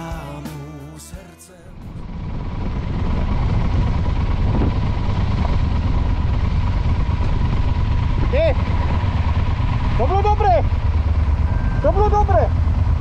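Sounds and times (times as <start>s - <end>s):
motorcycle engine rumble: 1.6s - 13.0s.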